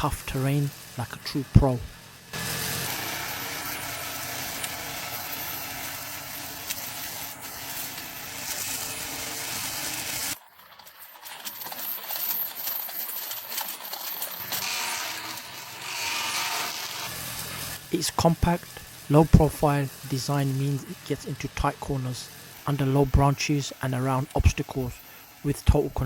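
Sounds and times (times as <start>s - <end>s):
robot lawn mower whirring: 0.0s - 26.0s.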